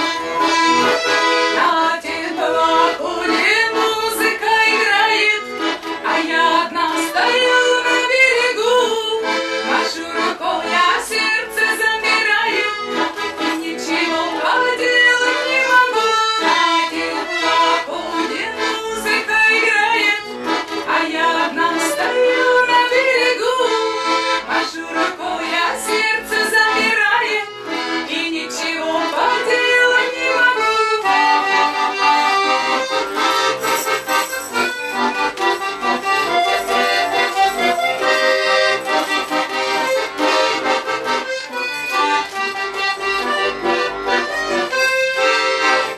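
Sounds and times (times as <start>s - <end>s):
button accordion folk tune: 0.0s - 45.9s.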